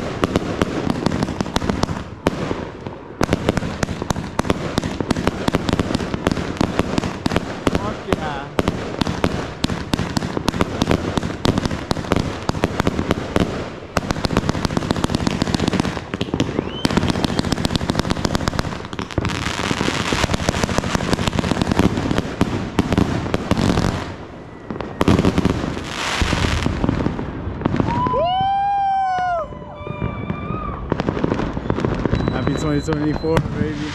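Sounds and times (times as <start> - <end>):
fireworks popping and crackling: 0.0 - 33.9.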